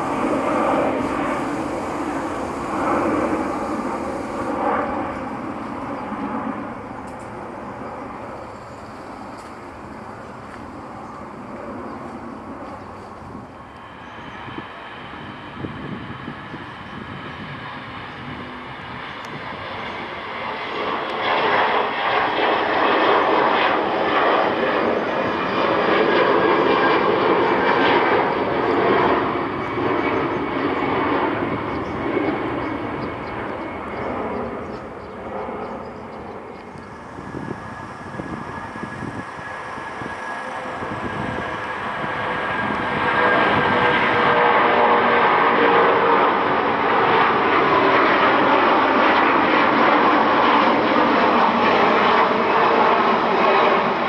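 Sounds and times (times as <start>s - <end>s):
jet engines passing by: 0.0s - 54.0s.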